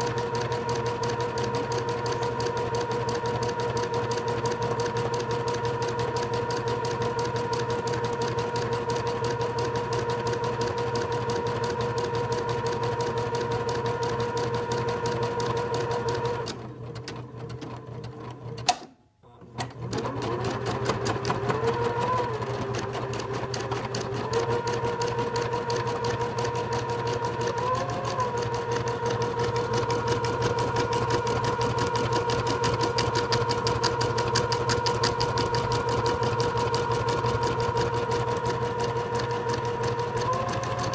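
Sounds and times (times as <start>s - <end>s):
embroidery machine stitching: 0.0s - 18.8s, 19.5s - 40.9s.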